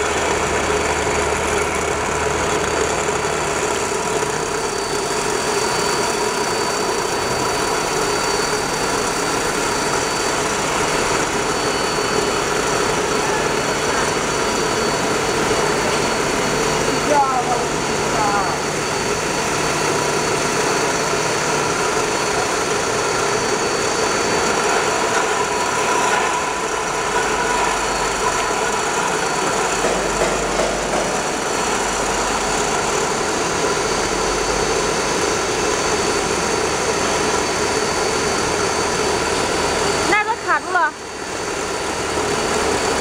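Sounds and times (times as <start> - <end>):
machine hum: 0.0 - 43.0
thin high whine: 0.0 - 43.0.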